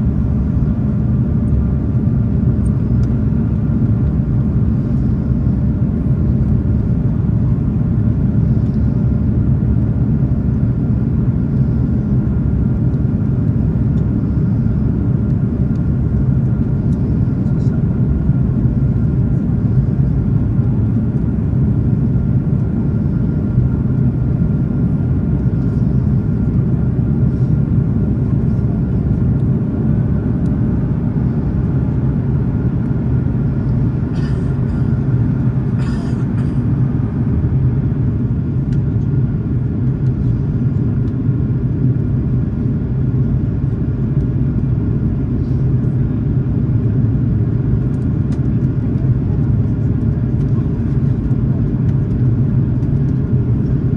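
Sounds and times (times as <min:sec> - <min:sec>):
engine rumble in cabin: 0:00.0 - 0:53.9.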